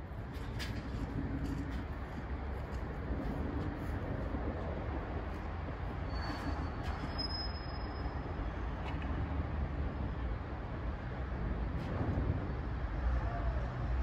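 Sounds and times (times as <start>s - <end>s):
train coaches rolling rumble: 0.0s - 14.0s.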